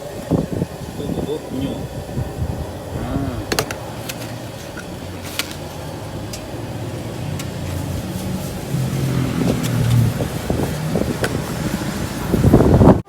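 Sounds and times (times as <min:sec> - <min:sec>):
passing traffic road noise: 0:00.0 - 0:13.0.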